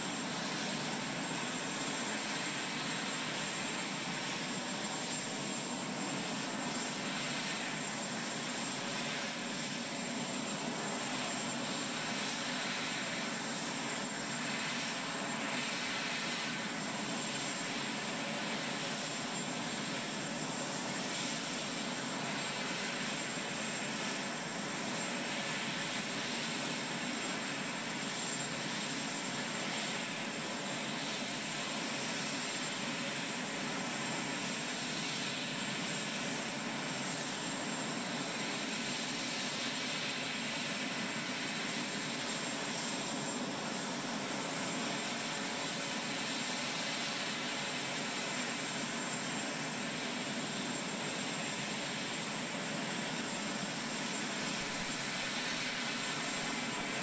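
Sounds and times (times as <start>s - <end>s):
aircraft engines running: 0.0s - 57.0s.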